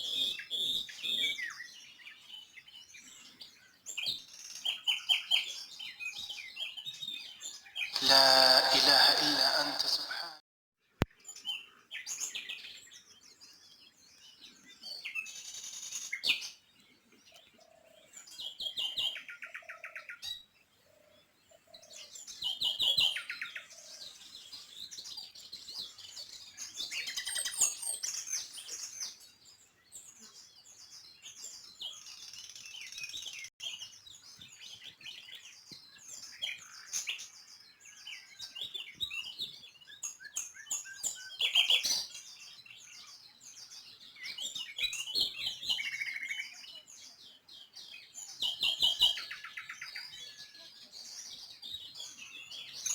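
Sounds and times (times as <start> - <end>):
songbirds chirping and trilling: 0.0 - 10.0, 10.9 - 52.9.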